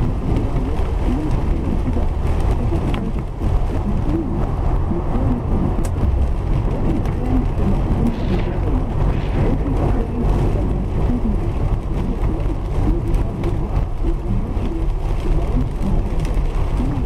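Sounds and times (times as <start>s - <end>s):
engine and tyre rumble on wet road: 0.0s - 17.0s
rain on windshield: 0.0s - 17.0s.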